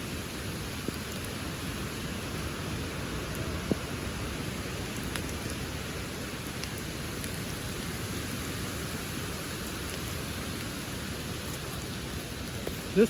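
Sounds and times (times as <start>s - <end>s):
pouring rain: 0.0s - 13.0s.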